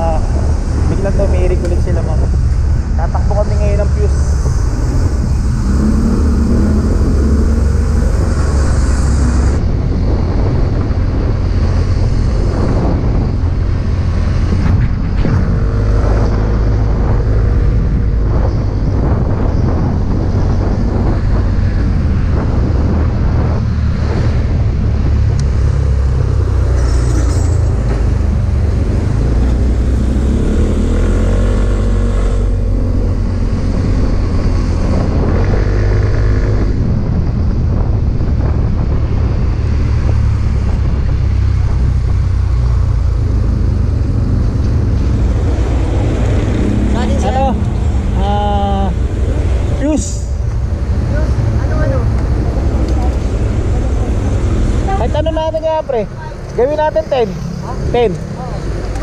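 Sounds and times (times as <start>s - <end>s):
motorcycle engine drone: 0.0s - 59.0s
wind on microphone: 0.0s - 59.0s.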